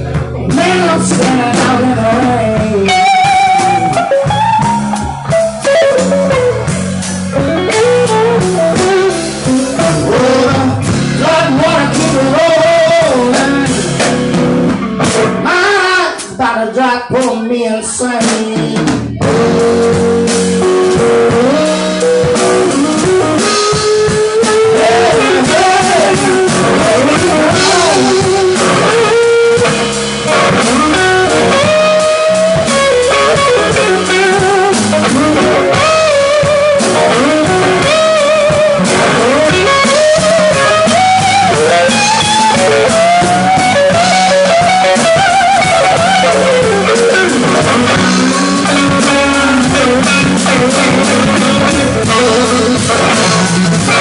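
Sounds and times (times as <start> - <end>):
electric guitar bent notes: 0.0 - 17.2, 18.0 - 54.0
bass guitar: 0.0 - 54.0
drum kit: 0.0 - 54.0.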